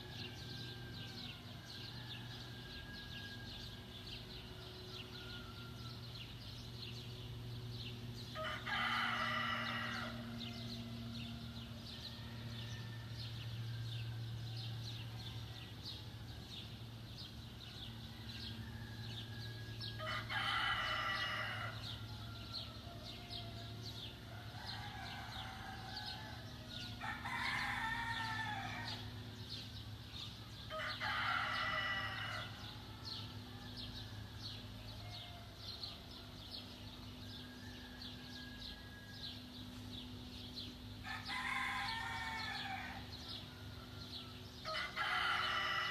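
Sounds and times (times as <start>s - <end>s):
rooster crowing: 0.0s - 6.4s, 8.2s - 16.6s, 17.6s - 29.6s, 30.6s - 39.8s, 41.0s - 45.9s
steady low hum: 0.0s - 45.9s.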